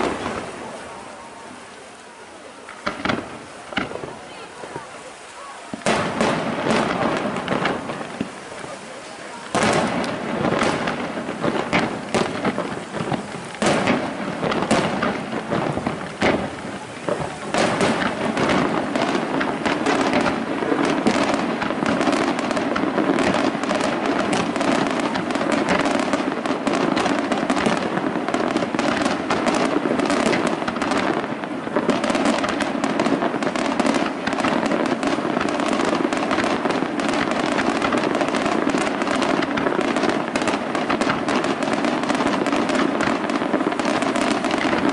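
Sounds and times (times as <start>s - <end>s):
firework crackle: 0.0s - 44.9s
firework shells bursting: 2.6s - 4.2s, 5.7s - 44.9s.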